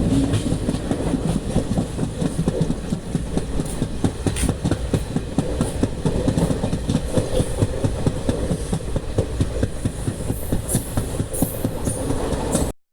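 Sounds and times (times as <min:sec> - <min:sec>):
train low rumble: 0:00.0 - 0:12.8
train wheels clattering on track: 0:00.0 - 0:12.8.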